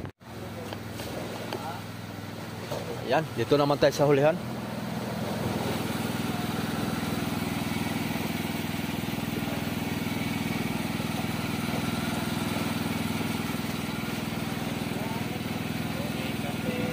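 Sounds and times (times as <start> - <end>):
small engine running: 0.4 - 16.9.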